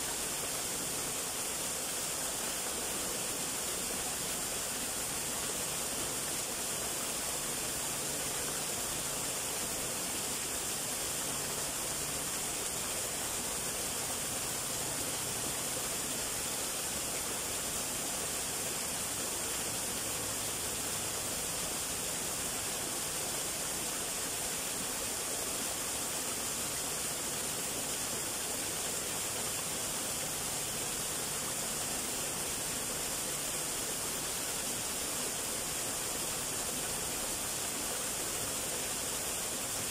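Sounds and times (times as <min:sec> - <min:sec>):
small waterfall splashing into pool: 0:00.0 - 0:39.9.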